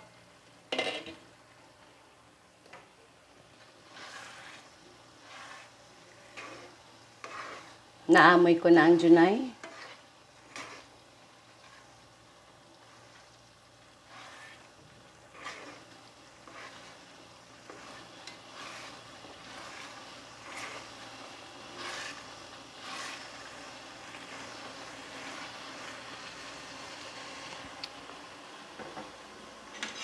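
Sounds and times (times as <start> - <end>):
rice simmering with sizzle: 0.0 - 30.0
spatula scraping a pan: 3.5 - 27.3, 29.7 - 30.0.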